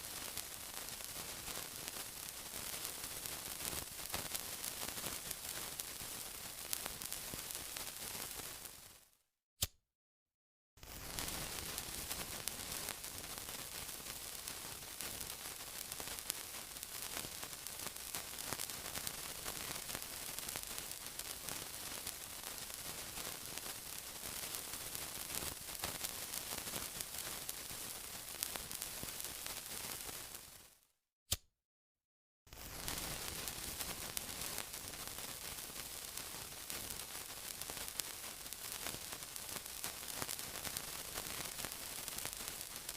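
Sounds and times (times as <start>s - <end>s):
sizzling hiss with crackles: 0.0s - 9.2s, 10.8s - 30.8s, 32.5s - 42.9s.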